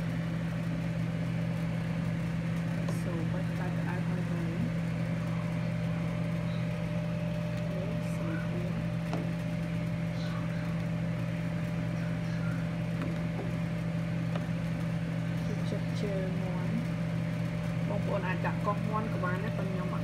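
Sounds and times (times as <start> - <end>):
appliance motor humming: 0.0 - 20.0.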